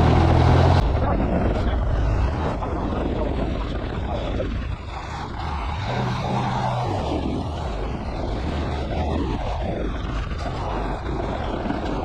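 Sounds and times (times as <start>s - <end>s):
low engine hum: 0.0s - 12.0s
truck engine and road rumble: 0.0s - 12.0s.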